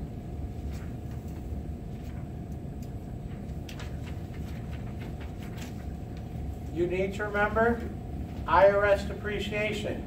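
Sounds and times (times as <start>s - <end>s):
faint even hum: 0.0s - 10.0s
low room rumble: 0.0s - 10.0s.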